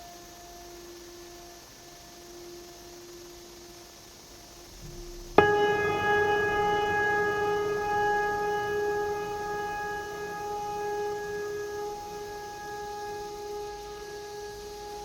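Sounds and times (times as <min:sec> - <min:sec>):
high-pitched machine whine: 0:00.0 - 0:15.0.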